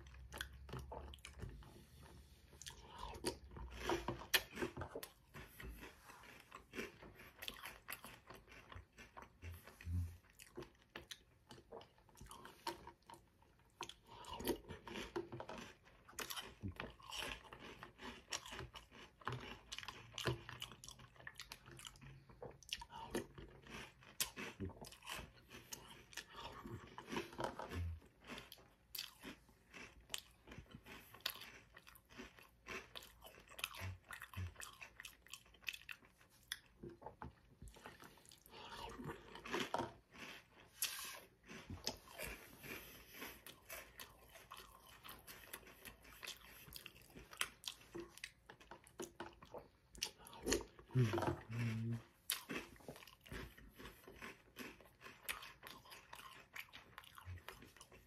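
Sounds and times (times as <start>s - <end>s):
chewing and crunching cereal: 0.0s - 58.0s.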